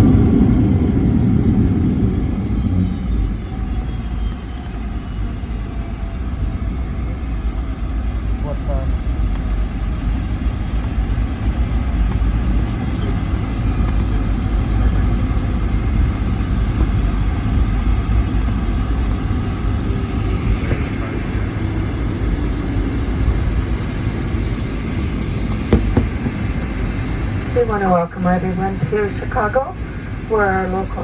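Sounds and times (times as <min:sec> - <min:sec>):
aircraft engines rumbling in cabin: 0:00.0 - 0:31.0.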